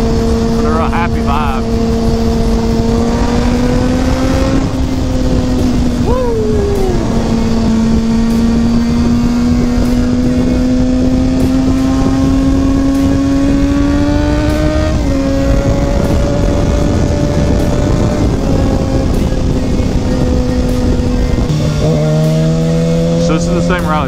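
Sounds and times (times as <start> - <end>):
motorcycle engine running: 0.0 - 24.0
wind rushing over microphone: 0.0 - 24.0.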